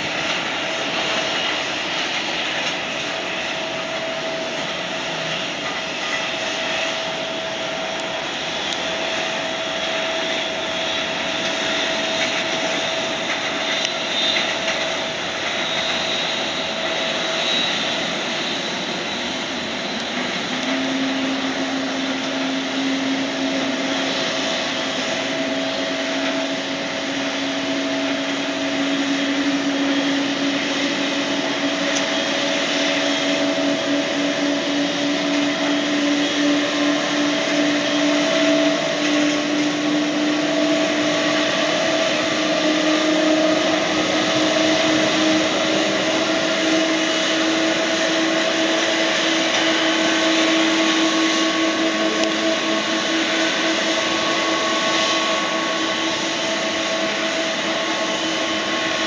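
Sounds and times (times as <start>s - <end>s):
jet engine starting up: 0.0s - 59.0s.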